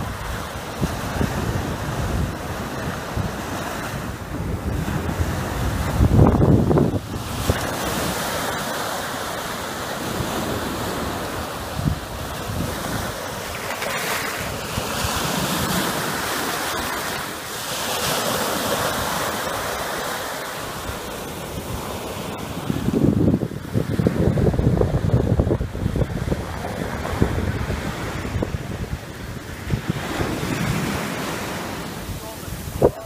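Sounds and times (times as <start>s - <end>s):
small waves breaking on sand: 0.0s - 33.0s
wind buffeting microphone: 0.0s - 33.0s.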